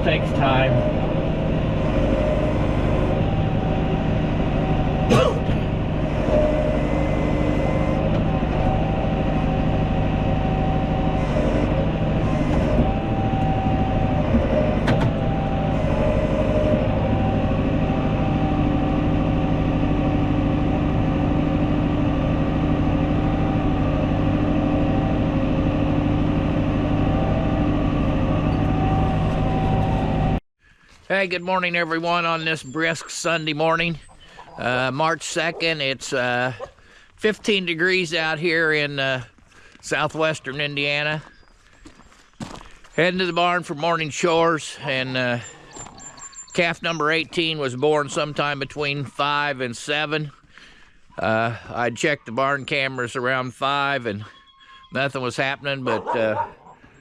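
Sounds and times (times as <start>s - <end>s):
tractor engine running: 0.0s - 54.3s, 54.9s - 57.0s.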